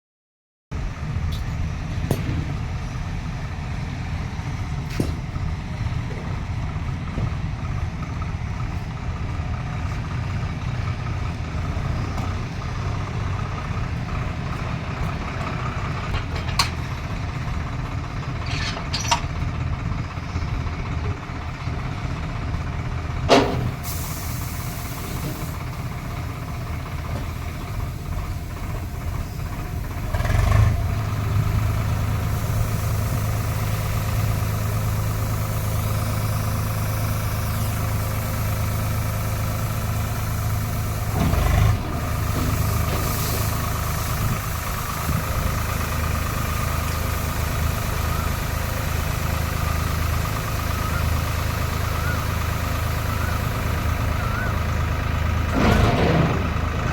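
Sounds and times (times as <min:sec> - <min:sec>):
combine harvester engine running: 0:00.7 - 0:56.9.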